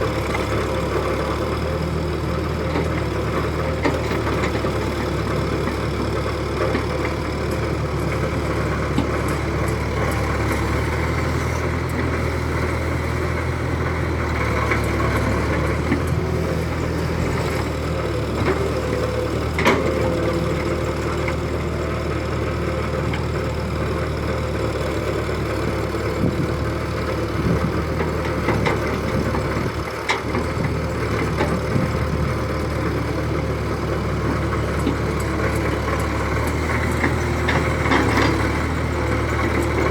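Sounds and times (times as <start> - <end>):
model excavator running hum: 0.0 - 39.9.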